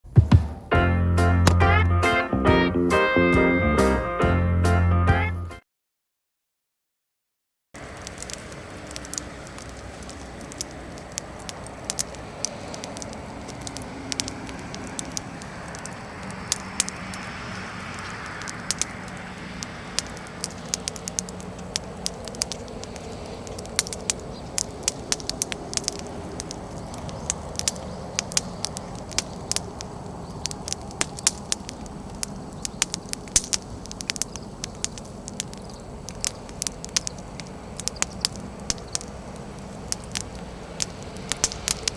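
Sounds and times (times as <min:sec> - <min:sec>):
bonfire crackling and popping: 0:01.2 - 0:02.4, 0:07.8 - 0:41.9
fire hiss: 0:07.8 - 0:41.9.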